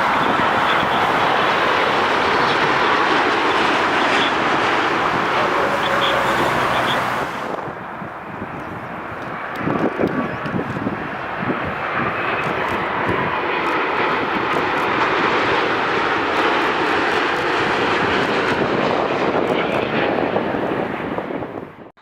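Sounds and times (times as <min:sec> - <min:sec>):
jet airliner engines roaring: 0:00.0 - 0:22.0.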